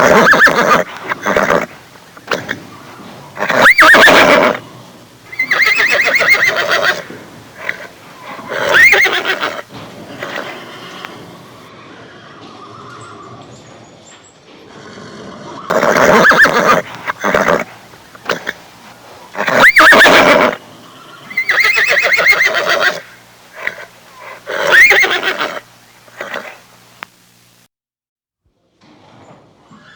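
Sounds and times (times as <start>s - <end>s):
horses neighing: 0.0s - 13.9s, 14.5s - 26.8s.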